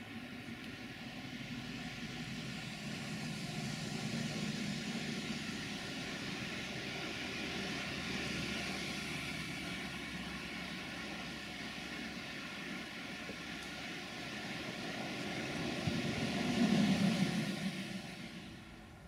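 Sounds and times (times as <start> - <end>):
locomotive diesel engine drone: 0.0 - 19.0
broad rushing hiss: 2.7 - 19.0.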